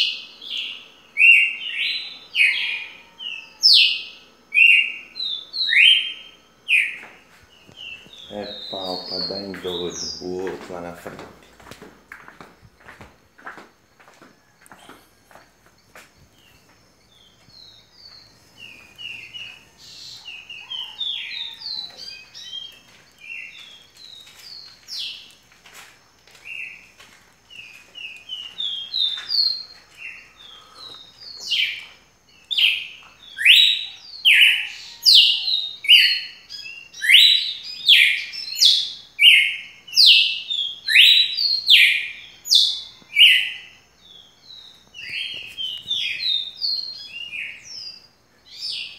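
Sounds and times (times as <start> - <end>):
nearby bird singing loudly: 0.0 - 11.2, 16.3 - 25.3, 27.5 - 48.9
birds chirping and twittering: 0.0 - 48.9.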